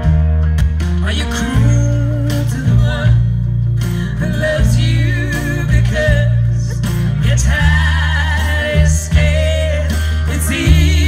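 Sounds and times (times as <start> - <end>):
folk band playing live: 0.0 - 11.0.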